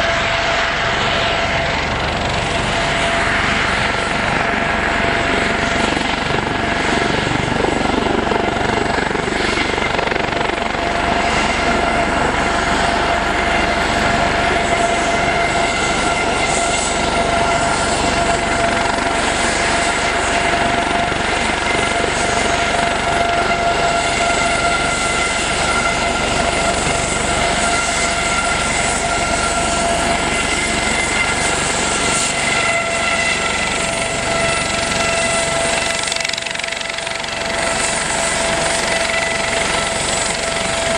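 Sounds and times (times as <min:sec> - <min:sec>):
helicopter rotor noise: 0:00.0 - 0:40.9
helicopter turbine whine: 0:00.0 - 0:40.9.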